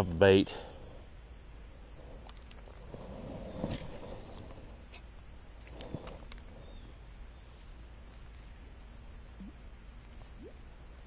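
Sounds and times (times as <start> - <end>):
high insect buzz: 0.0 - 11.0.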